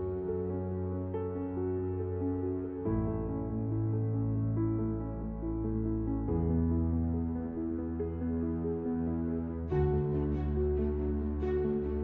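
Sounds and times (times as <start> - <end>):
soft new-age instrumental music: 0.0 - 12.0.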